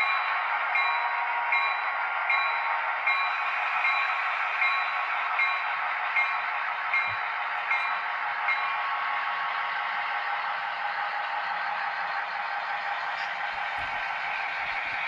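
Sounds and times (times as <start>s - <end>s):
model train rolling on track: 0.0s - 15.0s
rail clicks: 0.0s - 15.0s.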